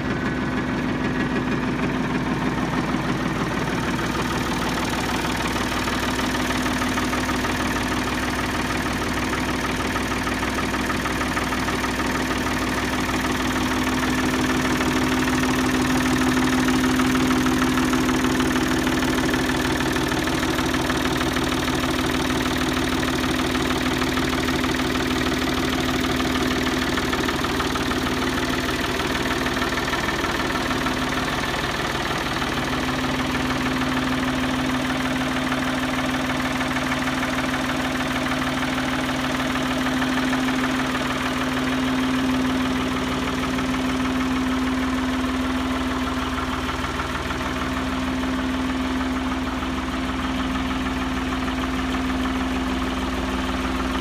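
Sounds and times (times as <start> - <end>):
backhoe engine idling: 0.0 - 54.0.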